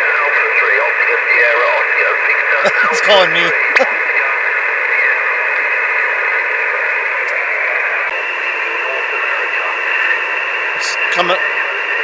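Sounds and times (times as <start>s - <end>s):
radio receiver hiss: 0.0s - 12.0s
weak radio station calling: 0.0s - 12.0s.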